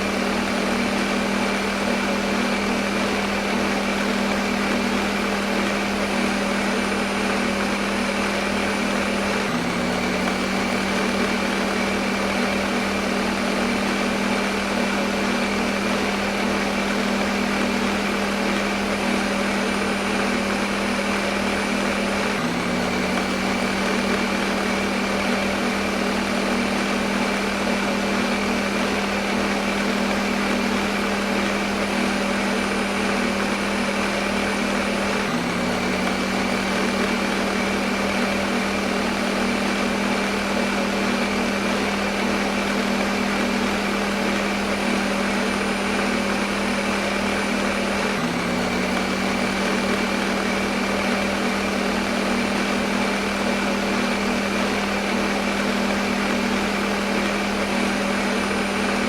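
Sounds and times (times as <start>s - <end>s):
blender motor whirring: 0.0s - 59.0s.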